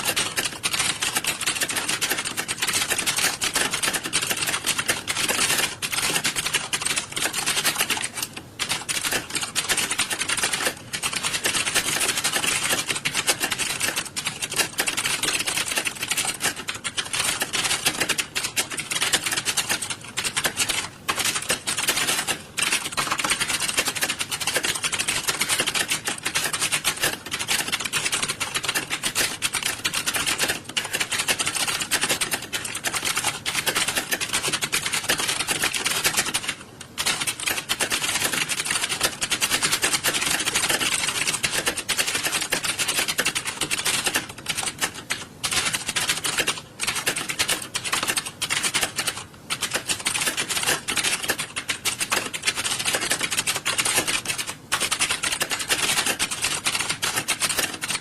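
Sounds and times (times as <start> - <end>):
many keyboards clattering: 0.0 - 58.0.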